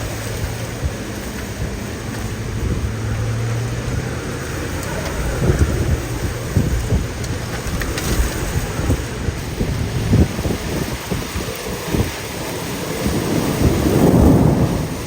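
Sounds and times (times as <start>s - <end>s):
rain: 0.0s - 15.0s
wind: 0.0s - 15.0s
wind buffeting microphone: 0.0s - 15.0s.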